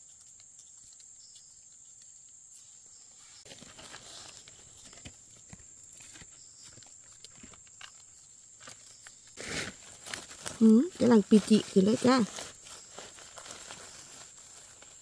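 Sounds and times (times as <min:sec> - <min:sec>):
insects buzzing: 0:00.0 - 0:15.0
leaves and twigs rustling: 0:00.0 - 0:15.0.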